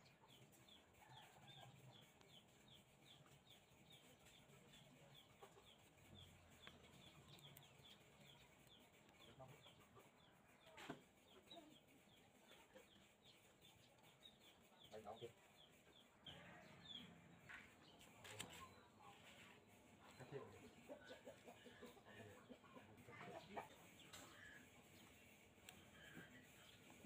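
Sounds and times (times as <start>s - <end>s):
faint bird chirping: 0.0s - 27.0s.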